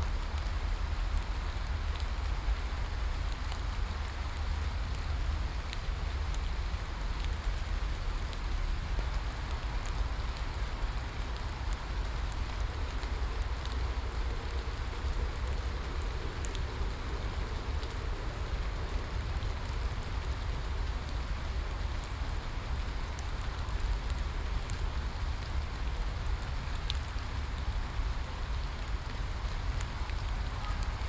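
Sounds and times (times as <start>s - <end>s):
rain falling: 0.0s - 31.0s
rain drop ticks: 0.1s - 31.0s.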